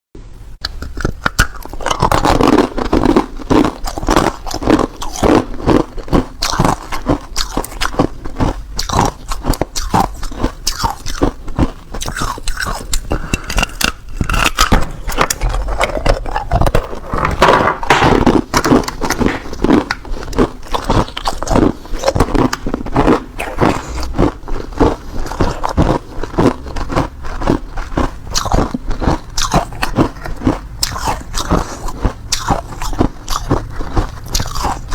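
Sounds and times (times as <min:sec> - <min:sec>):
person crunching ice: 0:00.6 - 0:34.9.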